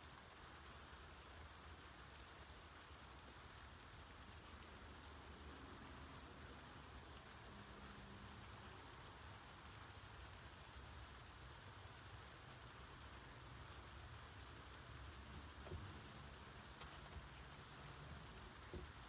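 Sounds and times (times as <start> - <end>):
faint outdoor ambience hiss: 0.0 - 19.0.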